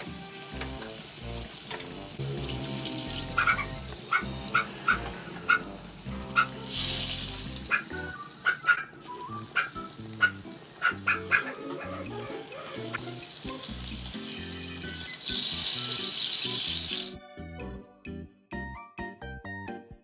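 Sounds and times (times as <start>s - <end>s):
hot oil sizzling: 0.0s - 17.2s
background music with bass: 0.0s - 20.0s.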